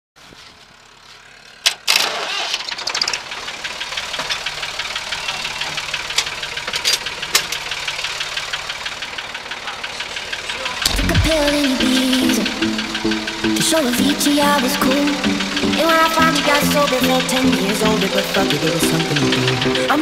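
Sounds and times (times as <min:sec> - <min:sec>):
tractor diesel engine idling: 0:00.4 - 0:20.0.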